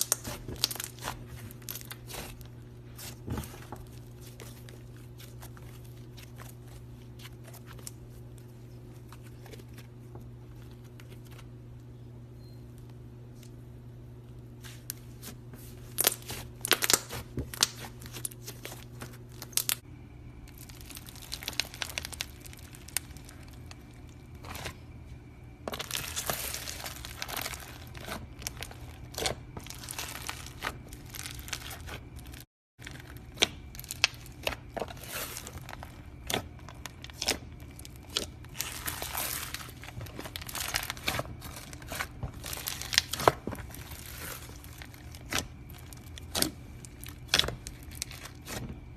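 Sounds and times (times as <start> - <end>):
slime squishing and crackling: 0.0 - 9.9, 14.6 - 19.8, 20.5 - 24.8, 25.7 - 48.9.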